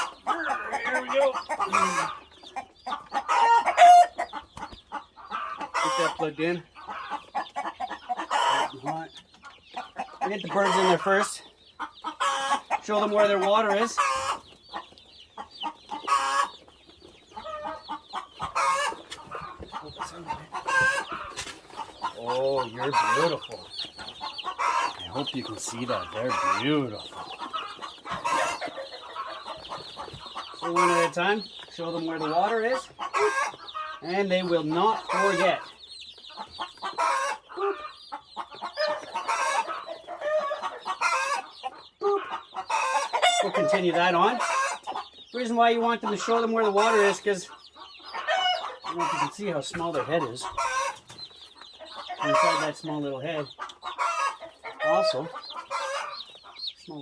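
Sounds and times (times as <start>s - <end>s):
adult chickens calling: 0.0s - 57.0s
chicks peeping: 0.0s - 57.0s.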